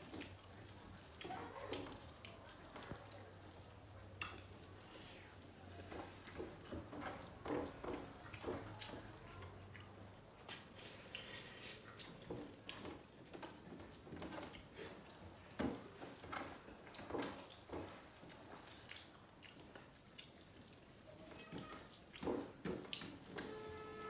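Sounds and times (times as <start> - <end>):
wet smacking and chewing: 0.0 - 23.6
hands squishing food on plates: 0.0 - 24.0.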